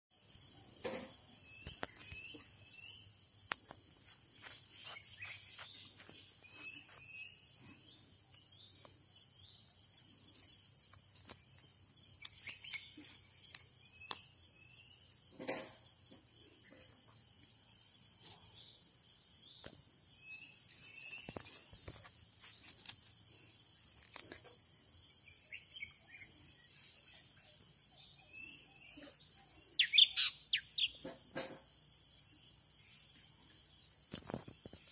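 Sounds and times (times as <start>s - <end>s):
bird chirps: 0.3s - 3.4s, 4.4s - 34.9s.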